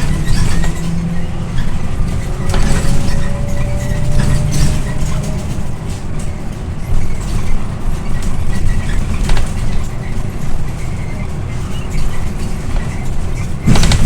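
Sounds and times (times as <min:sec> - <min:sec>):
body panels rattling: 0:00.0 - 0:10.6, 0:11.6 - 0:14.0
bus engine and road rumble: 0:00.0 - 0:14.0
sharp clatters: 0:00.0 - 0:14.0.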